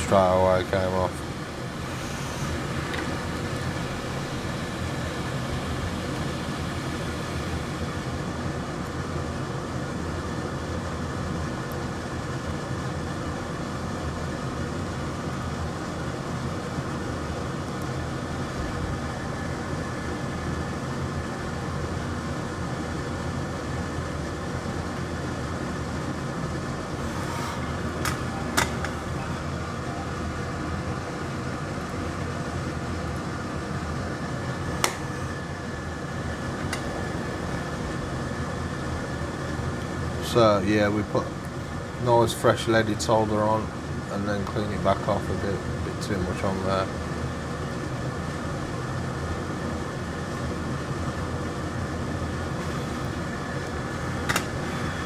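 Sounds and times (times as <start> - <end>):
electric fan whirring: 0.0 - 55.0.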